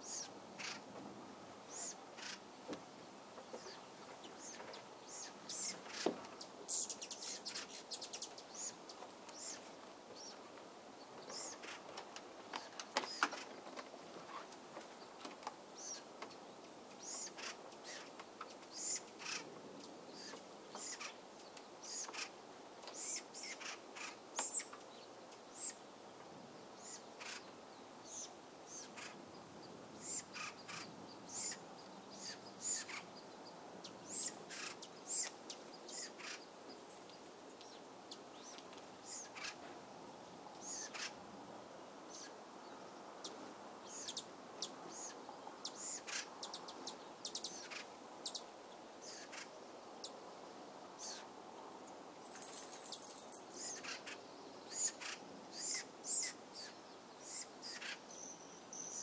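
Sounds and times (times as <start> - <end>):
small birds chirping: 0.0 - 41.3, 42.0 - 59.0
faint steady hiss: 0.0 - 59.0.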